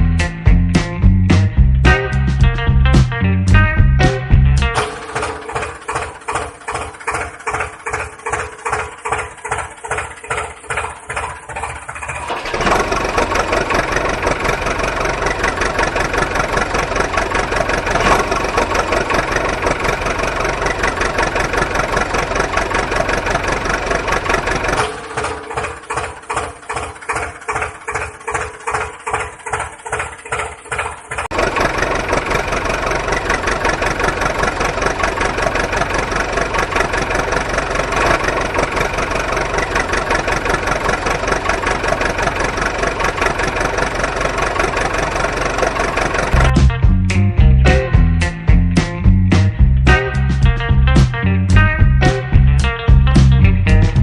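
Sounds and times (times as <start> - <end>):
engine chugging: 0.0 - 54.0.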